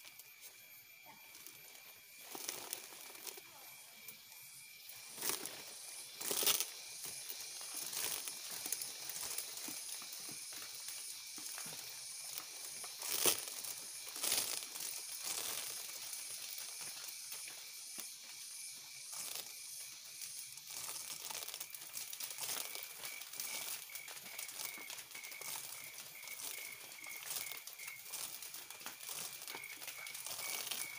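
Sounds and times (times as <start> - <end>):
dry palm leaves rustling: 1.3 - 3.6, 4.8 - 30.9.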